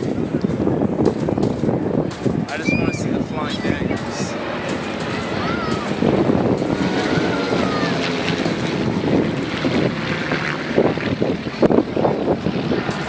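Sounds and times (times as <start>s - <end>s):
propeller aircraft engines droning: 0.0s - 13.0s
wind buffeting microphone: 0.0s - 13.0s.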